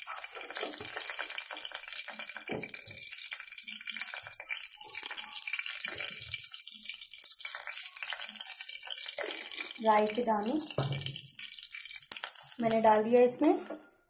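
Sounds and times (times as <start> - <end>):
chillies sizzling in hot fat: 0.0 - 14.0.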